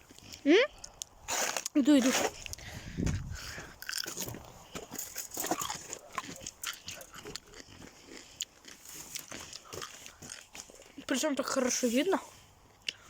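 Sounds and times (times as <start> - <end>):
animal crunching and snuffling: 0.0 - 13.0.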